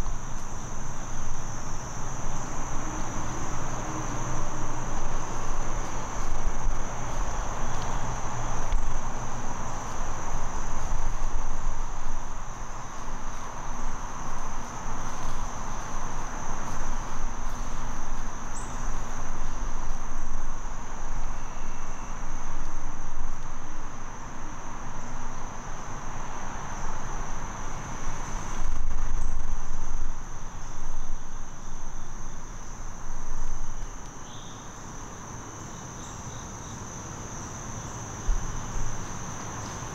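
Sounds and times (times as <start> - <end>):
insects trilling: 0.0 - 39.9
low rumble and hiss: 0.0 - 39.9.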